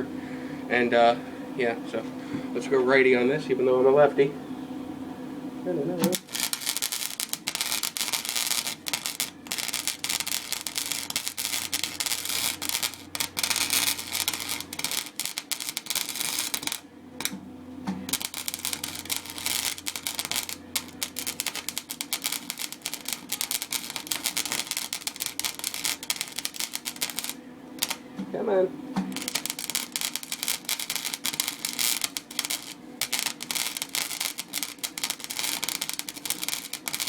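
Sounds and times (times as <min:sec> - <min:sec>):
welder arc crackling: 0:05.7 - 0:37.0.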